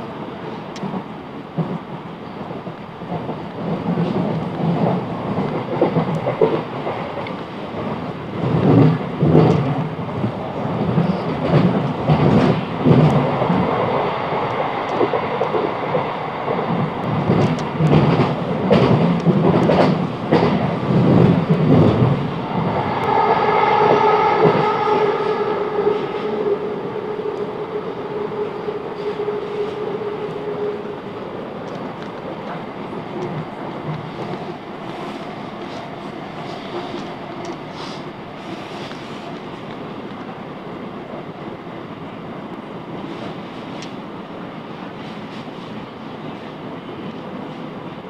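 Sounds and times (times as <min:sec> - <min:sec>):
train wheels rumbling over rail joints: 0:00.0 - 0:40.4
multi-tone train whine: 0:00.0 - 0:48.0.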